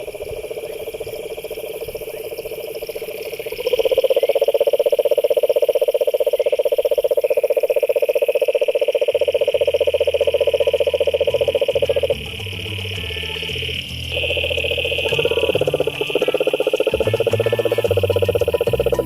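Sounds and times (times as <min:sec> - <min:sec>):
frog trilling: 0:00.0 - 0:19.0.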